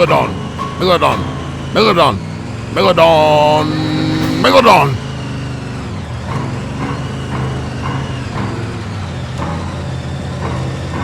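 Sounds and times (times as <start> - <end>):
truck engine rumble: 0.0 - 11.0.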